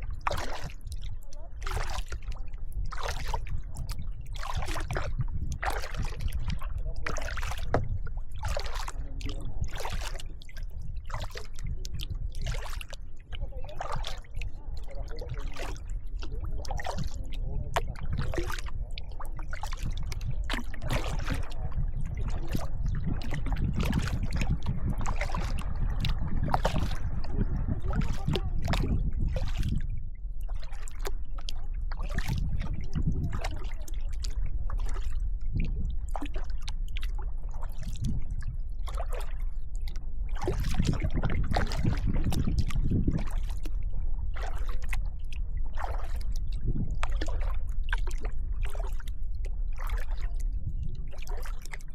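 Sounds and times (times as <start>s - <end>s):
kayak paddle splashing: 0.0s - 51.9s
steady low rumble: 0.0s - 51.9s.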